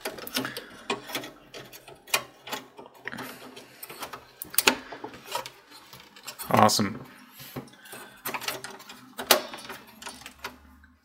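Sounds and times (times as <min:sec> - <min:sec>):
metal bracket clicking and scraping: 0:00.0 - 0:06.7, 0:07.6 - 0:10.9.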